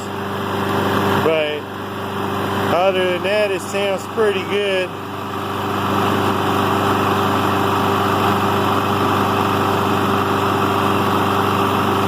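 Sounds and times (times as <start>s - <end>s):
lawn mower engine idling: 0.0s - 12.0s.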